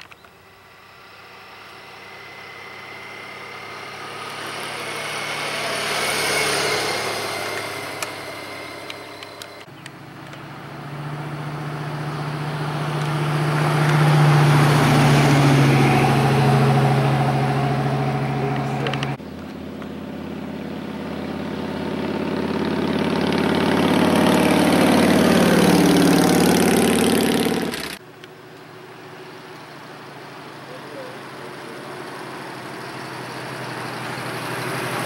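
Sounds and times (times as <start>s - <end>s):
motorcycle passing: 0.4s - 35.0s
pickup truck driving past: 0.5s - 28.0s, 28.8s - 35.0s.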